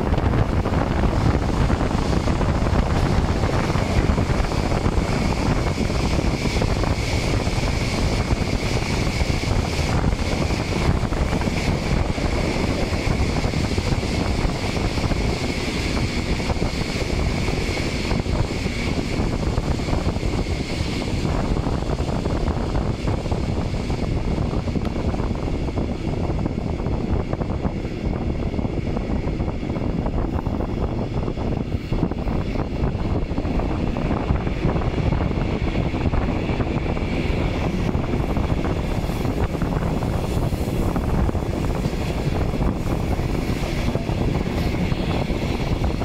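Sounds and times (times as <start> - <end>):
train rolling rumble: 0.0 - 46.0
wind rushing over microphone: 0.0 - 46.0.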